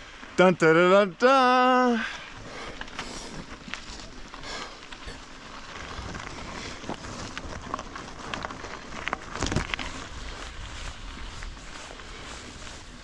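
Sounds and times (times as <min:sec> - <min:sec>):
bicycle tyres crunching and rattling: 0:00.0 - 0:13.0.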